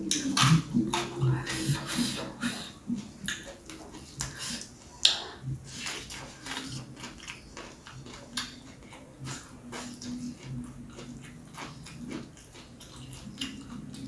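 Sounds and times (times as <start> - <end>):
chewing with crunches: 0.0 - 14.0.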